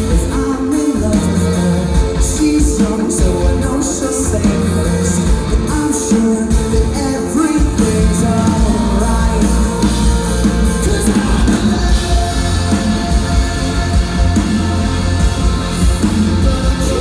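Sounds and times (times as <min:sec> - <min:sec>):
drums: 0:00.0 - 0:17.0
electric guitars: 0:00.0 - 0:17.0
person singing: 0:00.0 - 0:17.0.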